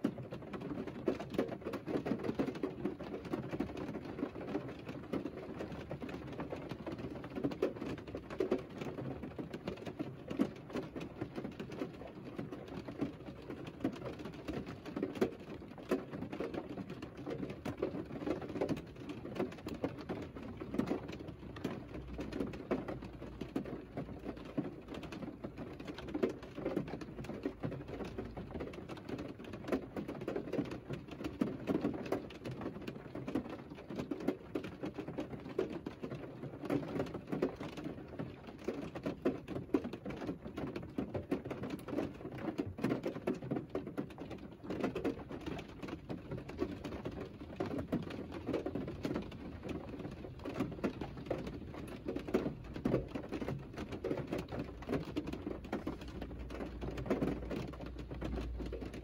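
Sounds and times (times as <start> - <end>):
rain on a car roof: 0.0 - 59.0.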